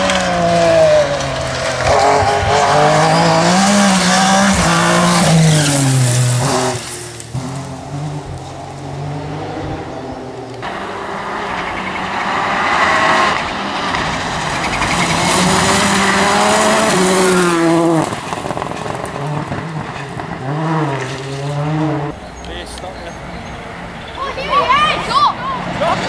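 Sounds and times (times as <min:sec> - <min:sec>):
rally car engine revving past: 0:00.0 - 0:22.2.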